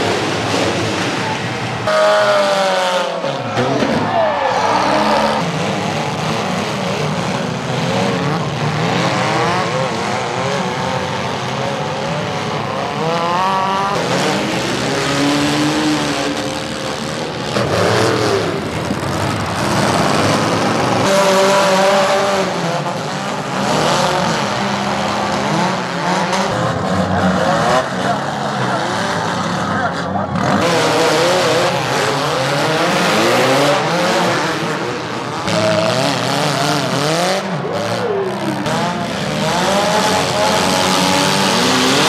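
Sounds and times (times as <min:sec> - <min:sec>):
car engines revving hard: 0:00.0 - 0:42.0.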